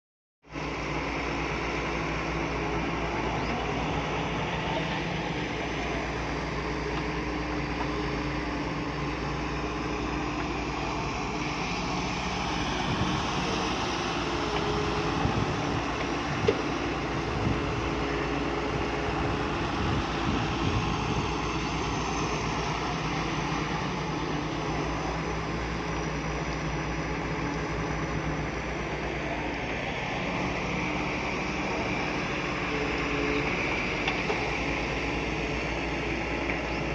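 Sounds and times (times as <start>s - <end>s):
heavy diesel engine running: 0.4s - 36.9s.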